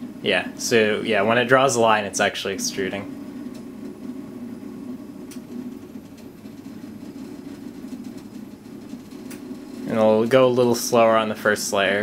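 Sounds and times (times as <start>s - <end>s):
printer stepper motors droning: 0.0s - 12.0s.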